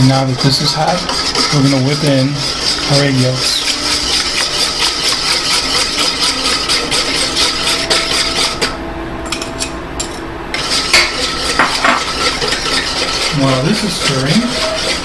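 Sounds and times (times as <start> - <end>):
wire whisk scraping metal bowl: 0.0 - 15.0.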